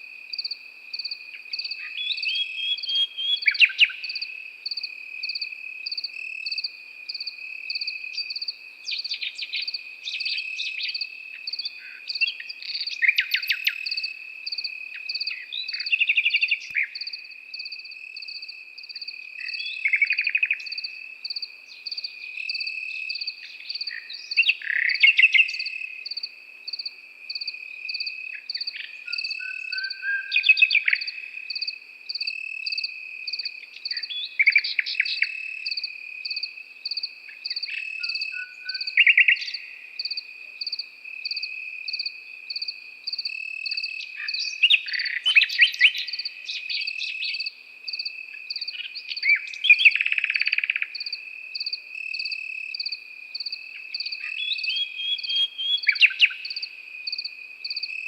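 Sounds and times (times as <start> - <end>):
crickets trilling: 0.0 - 58.0
insect chirping: 0.0 - 58.0
nightingale singing: 0.0 - 58.0.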